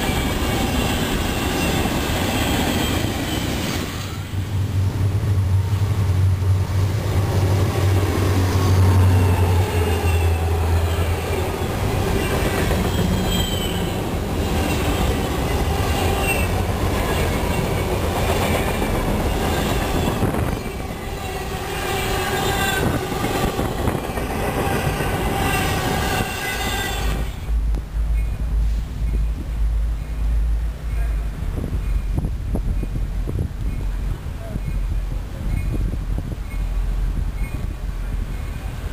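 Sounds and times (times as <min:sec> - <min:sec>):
train wheels squealing on rails: 0:00.0 - 0:04.6, 0:07.6 - 0:27.5, 0:30.9 - 0:33.0, 0:33.6 - 0:38.9.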